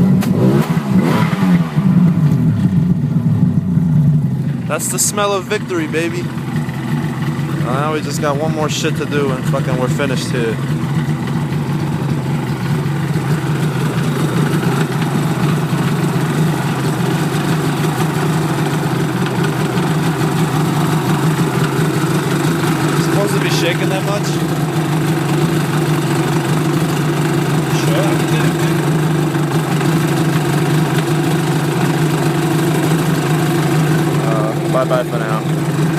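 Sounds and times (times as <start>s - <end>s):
two-stroke engine idling: 0.0s - 35.9s.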